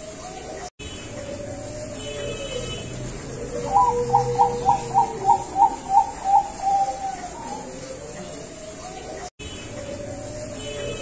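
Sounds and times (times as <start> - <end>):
dove cooing: 1.2 - 11.0.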